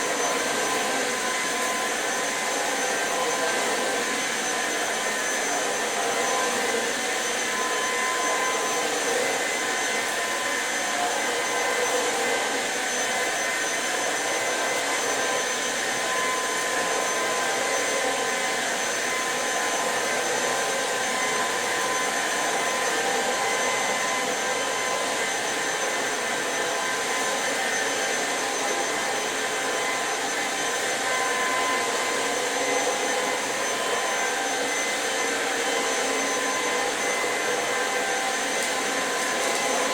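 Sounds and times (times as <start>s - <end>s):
stick vacuum running: 0.0s - 39.9s.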